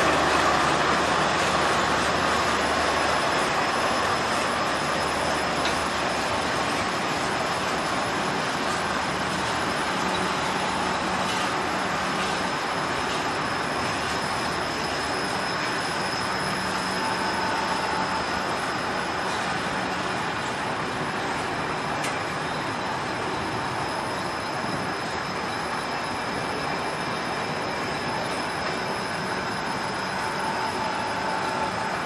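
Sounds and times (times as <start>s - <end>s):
train wheels on track: 0.0s - 32.0s.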